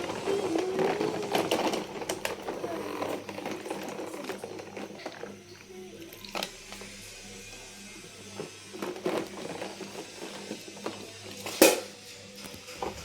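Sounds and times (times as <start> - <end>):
plastic toy vehicles clacking: 0.0 - 13.0
soft background music: 0.0 - 13.0.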